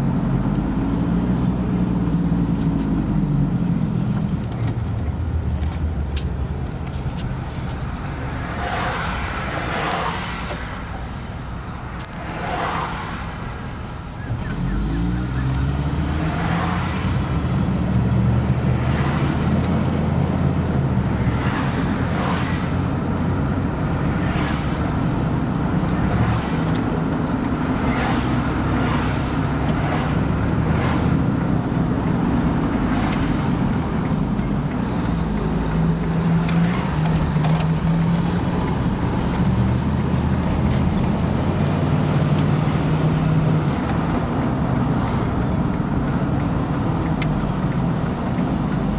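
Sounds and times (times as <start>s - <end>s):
road noise: 0.0s - 48.9s
vehicle engine running: 0.0s - 48.9s.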